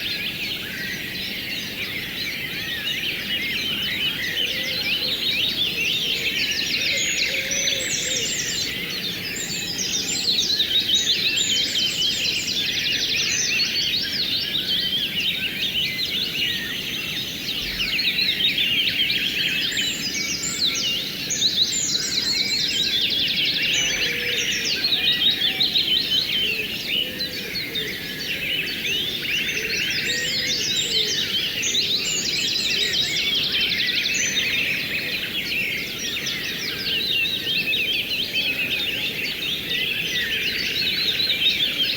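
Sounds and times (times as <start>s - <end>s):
songbirds chirping: 0.0s - 41.9s.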